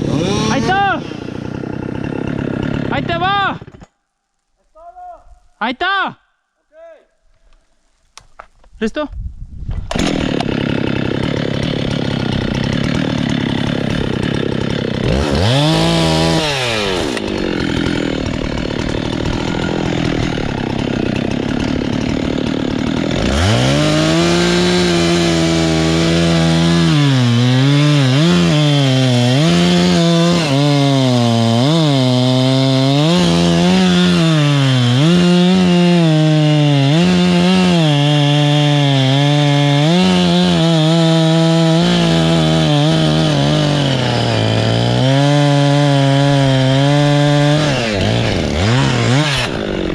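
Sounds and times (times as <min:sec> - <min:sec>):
chainsaw engine revving: 0:00.0 - 0:03.9, 0:09.9 - 0:49.9
chainsaw bogging cutting wood: 0:00.0 - 0:04.0, 0:09.9 - 0:49.9.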